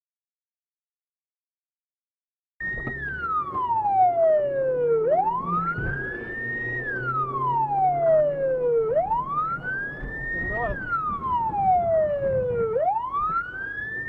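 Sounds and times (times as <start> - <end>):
car engine hum: 2.6 - 14.0
police siren wailing: 2.6 - 14.0.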